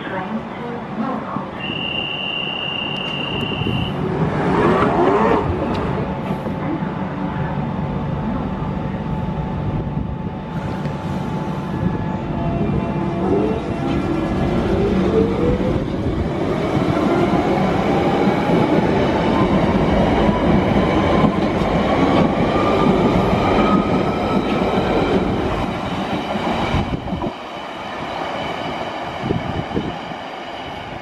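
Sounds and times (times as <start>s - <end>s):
train wheels rumbling on rails: 2.7s - 31.0s.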